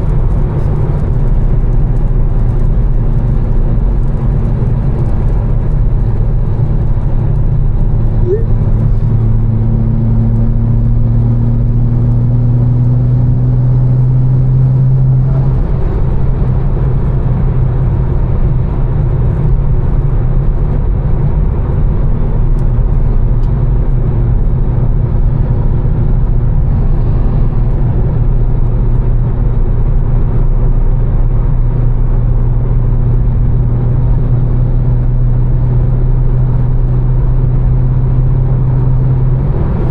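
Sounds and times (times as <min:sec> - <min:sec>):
car engine droning: 0:00.0 - 0:39.9
tyre noise on wet road: 0:00.0 - 0:39.9.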